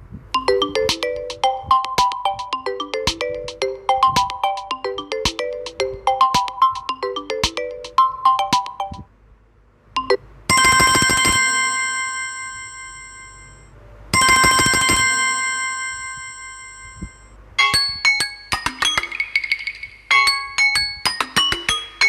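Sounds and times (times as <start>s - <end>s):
bell-like ring with trill: 0.4s - 9.1s, 10.0s - 22.0s
fast high melody: 0.4s - 9.1s, 10.0s - 22.0s
ringtone melody: 0.4s - 9.1s, 10.0s - 22.0s.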